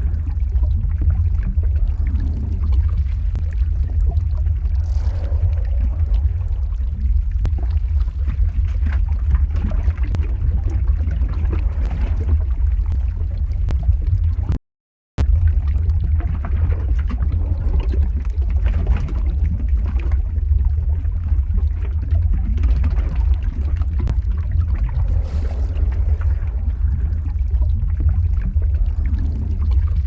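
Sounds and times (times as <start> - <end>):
deep steady rumble: 0.0 - 14.6, 15.2 - 30.0
lava bubbling and crackling: 0.0 - 14.6, 15.2 - 30.0.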